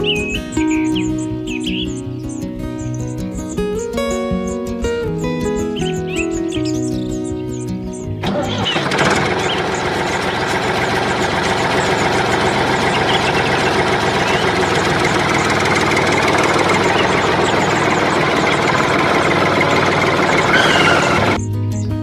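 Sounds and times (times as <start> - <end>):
engine idling: 0.0 - 21.4.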